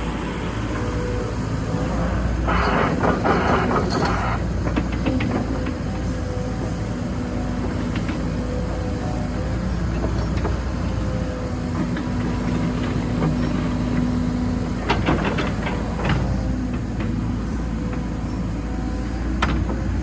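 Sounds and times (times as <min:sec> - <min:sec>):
excavator engine rumble: 0:00.0 - 0:20.0.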